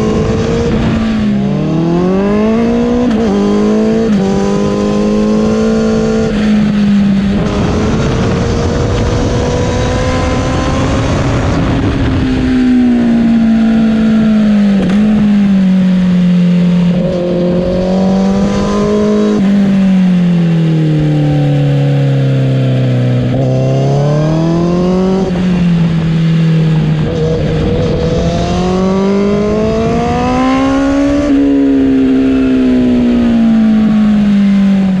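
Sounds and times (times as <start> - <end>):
motorcycle engine revving: 0.0 - 35.0
wind and road rush: 0.0 - 35.0.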